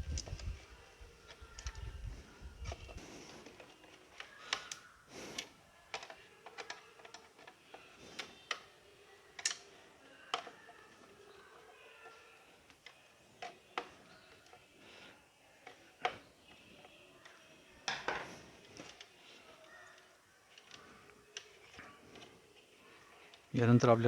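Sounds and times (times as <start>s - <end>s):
plastic and metal parts clicking: 0.0s - 23.6s.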